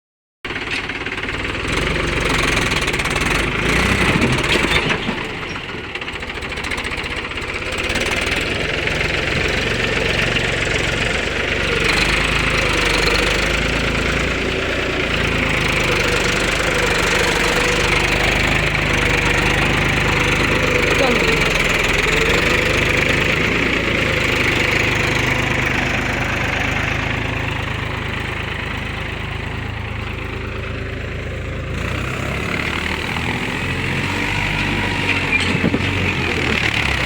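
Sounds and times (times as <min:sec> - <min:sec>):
tractor diesel engine knocking: 0:00.5 - 0:37.0.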